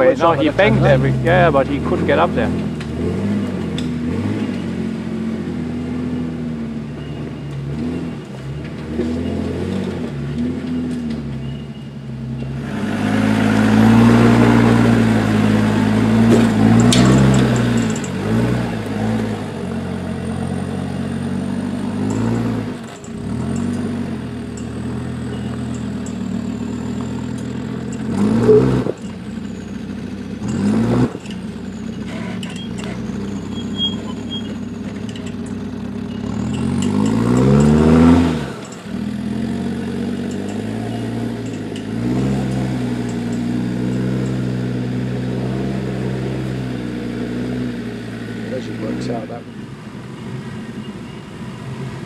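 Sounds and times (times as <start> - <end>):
off-road engine revving: 0.0 - 52.0.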